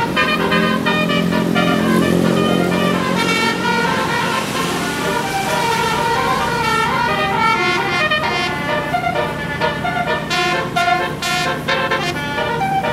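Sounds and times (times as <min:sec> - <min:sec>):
multi-tone air horn tune: 0:00.0 - 0:12.9
rushing noise: 0:00.0 - 0:12.9.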